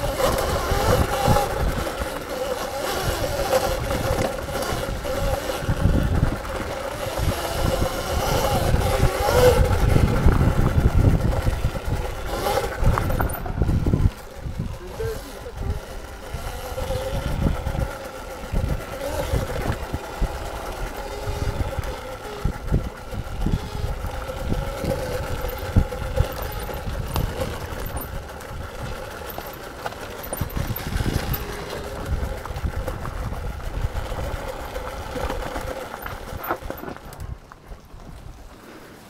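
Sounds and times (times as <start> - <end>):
electric dirt bike motor whine: 0.0 - 37.4.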